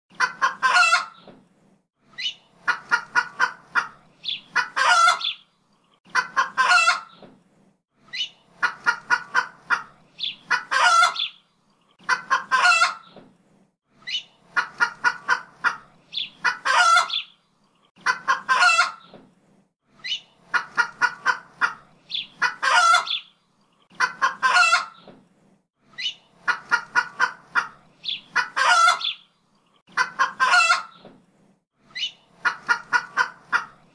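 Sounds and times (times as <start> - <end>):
chickens clucking: 0.1 - 1.4, 2.2 - 7.4, 8.1 - 13.3, 14.1 - 19.3, 20.0 - 25.3, 26.0 - 31.2, 32.0 - 33.9.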